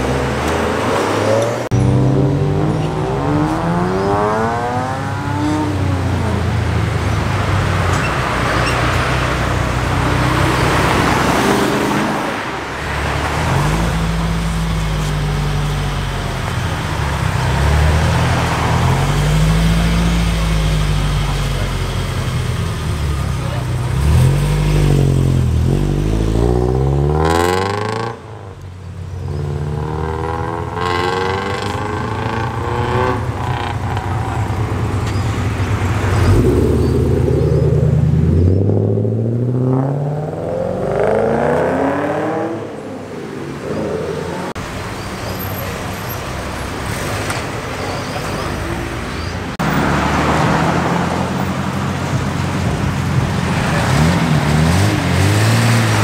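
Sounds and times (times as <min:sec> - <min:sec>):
car engines revving through gears: 0:00.0 - 0:56.0.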